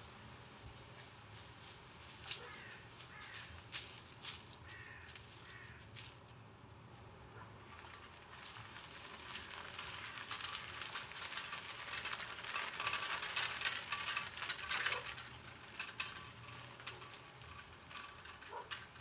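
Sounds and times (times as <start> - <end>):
leaves and twigs rustling and crackling: 0.9 - 6.4, 7.6 - 19.0.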